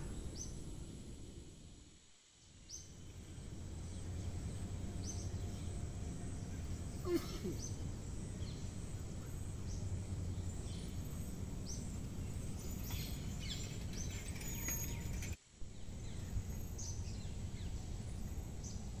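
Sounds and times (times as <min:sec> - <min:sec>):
low outdoor background noise: 0:00.0 - 0:19.0
woodland birds chirping: 0:02.6 - 0:19.0.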